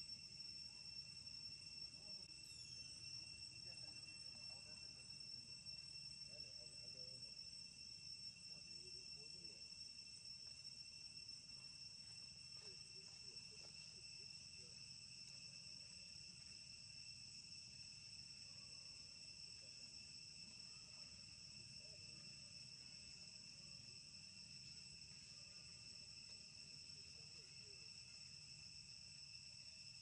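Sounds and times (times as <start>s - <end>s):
insects chorus drone: 0.0s - 30.0s.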